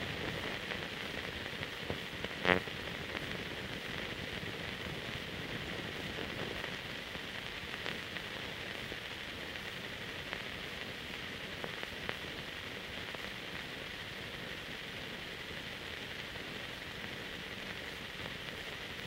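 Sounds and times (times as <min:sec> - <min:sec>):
film surface hiss: 0:00.0 - 0:19.0.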